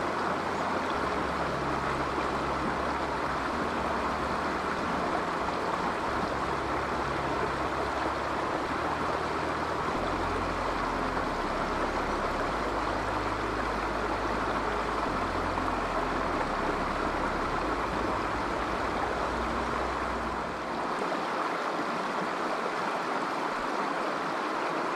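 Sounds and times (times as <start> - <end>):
low rumble: 0.0 - 21.0
river rushing over rocks: 0.0 - 24.9.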